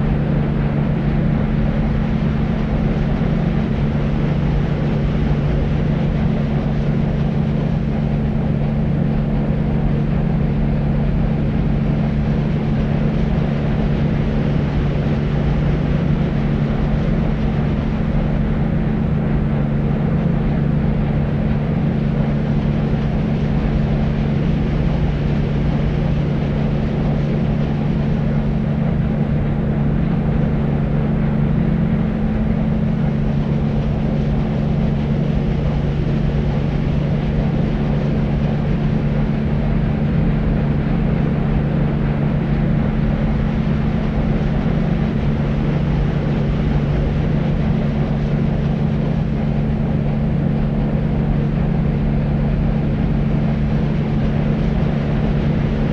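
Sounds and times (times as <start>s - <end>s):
deep white noise rush: 0.0s - 55.9s
low hum: 0.0s - 55.9s.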